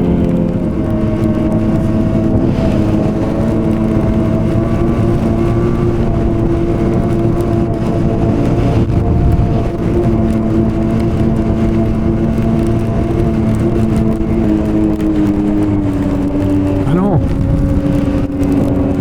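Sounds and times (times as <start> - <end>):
snowmobile engine running: 0.0 - 19.0.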